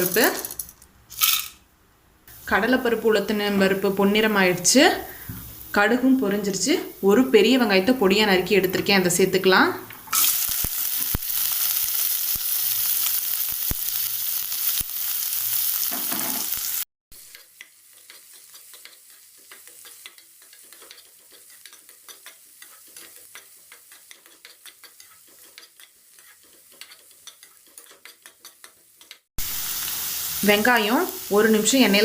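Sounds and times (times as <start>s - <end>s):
onion sizzling in hot oil: 2.3s - 9.4s, 10.1s - 32.0s.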